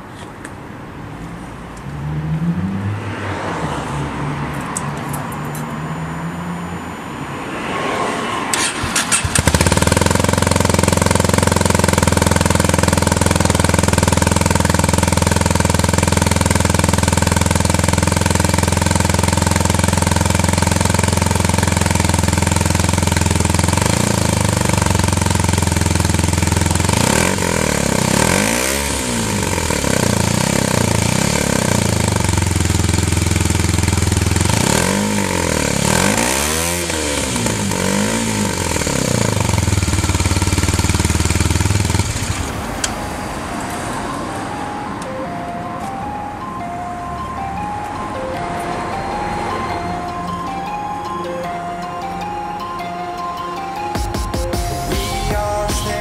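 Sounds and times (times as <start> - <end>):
motorcycle engine idling and revving: 8.5 - 56.0.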